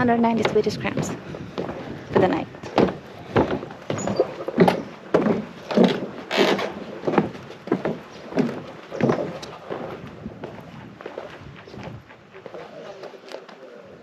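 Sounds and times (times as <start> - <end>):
footsteps on hollow wooden boards: 0.0 - 13.7.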